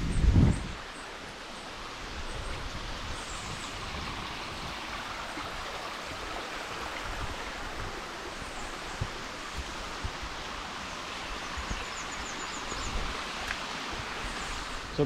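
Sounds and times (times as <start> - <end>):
water rushing in a stream: 0.8 - 15.0.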